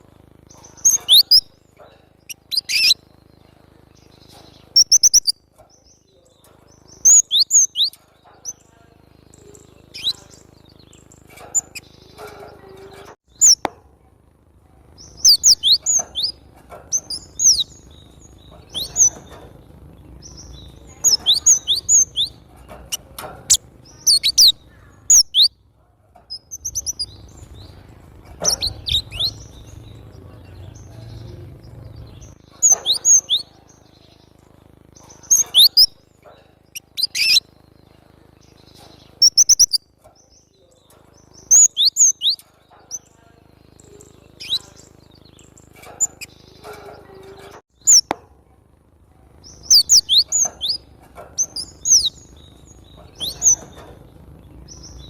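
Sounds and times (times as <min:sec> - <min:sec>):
bird chirping: 0:00.0 - 0:13.8, 0:14.9 - 0:48.2, 0:49.3 - 0:55.0.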